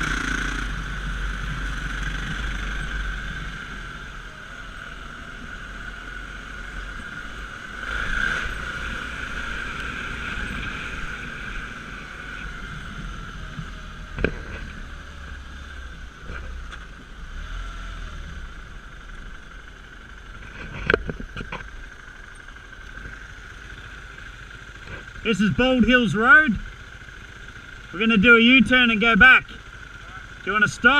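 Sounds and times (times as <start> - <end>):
dirt bike engine running: 0.0 - 30.9.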